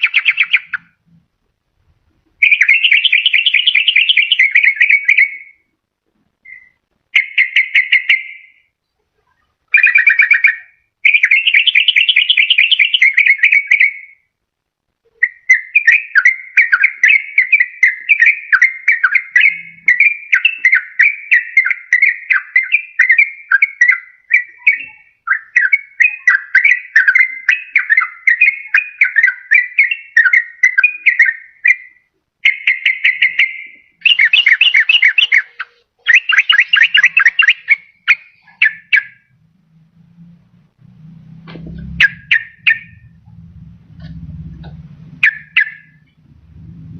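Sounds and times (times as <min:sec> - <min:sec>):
bird song rapid chattering: 0:00.0 - 0:01.0, 0:02.2 - 0:05.6, 0:06.4 - 0:08.7, 0:09.3 - 0:14.1, 0:15.2 - 0:39.4, 0:41.6 - 0:46.9.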